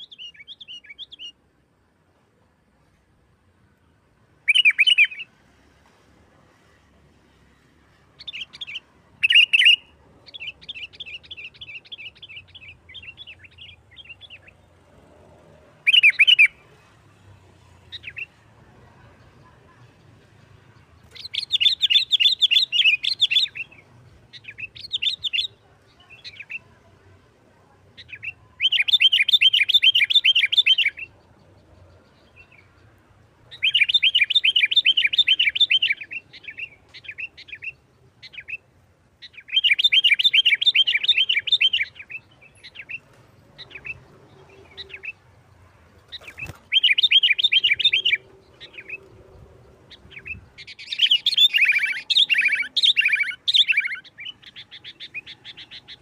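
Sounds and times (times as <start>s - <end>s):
bulbul chattering song: 0.0s - 1.5s, 4.4s - 5.3s, 8.2s - 14.7s, 15.8s - 16.8s, 19.0s - 27.2s, 27.8s - 56.0s.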